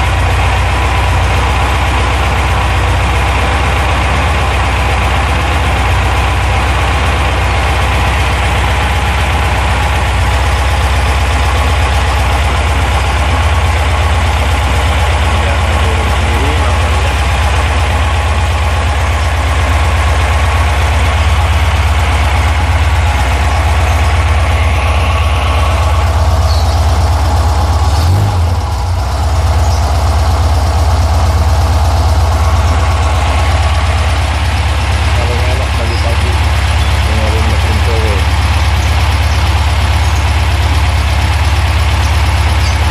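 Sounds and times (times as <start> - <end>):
air-cooled car engine idling: 0.0 - 42.9.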